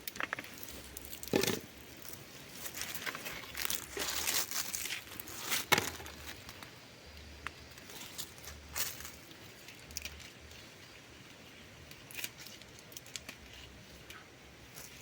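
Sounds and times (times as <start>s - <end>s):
dry leaves and pods snapping: 0.0s - 15.0s
plants rustling and crackling: 0.0s - 15.0s.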